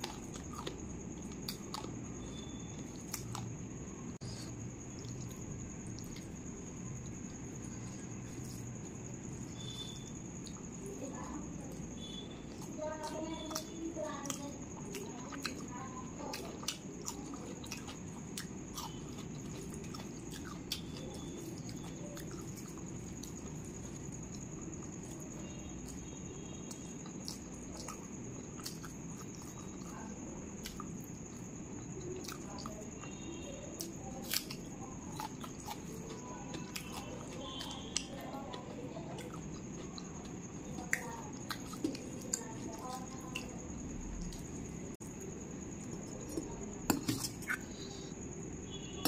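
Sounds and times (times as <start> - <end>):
person chewing and mouth smacking: 0.0 - 10.8, 11.7 - 49.0.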